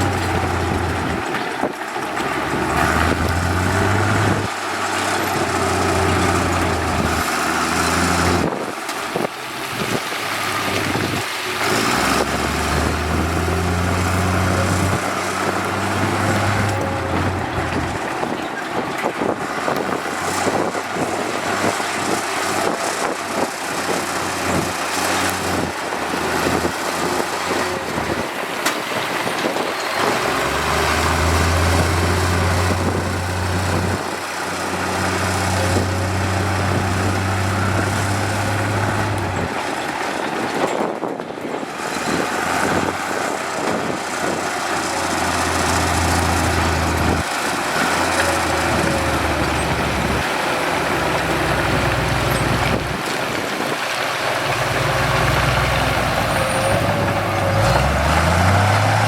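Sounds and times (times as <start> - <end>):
heavy machinery engine drone: 0.0 - 59.0
machinery rumble and clatter: 0.0 - 59.0.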